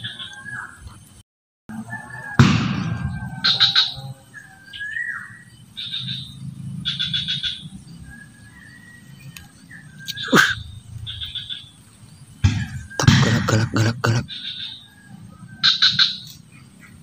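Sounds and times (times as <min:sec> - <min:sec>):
birds trilling and whistling: 0:00.0 - 0:01.2, 0:01.8 - 0:17.0.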